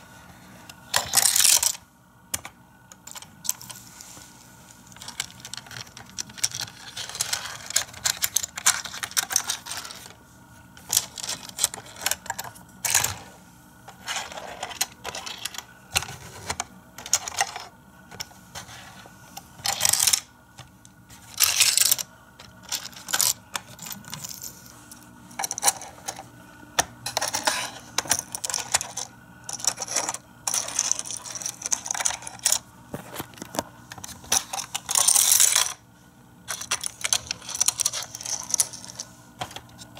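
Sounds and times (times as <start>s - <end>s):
plastic toy parts clicking and rattling: 0.9s - 3.8s, 4.9s - 10.2s, 10.8s - 13.2s, 13.9s - 18.8s, 19.6s - 20.7s, 21.3s - 24.6s, 25.4s - 26.2s, 26.8s - 35.8s, 36.5s - 39.9s.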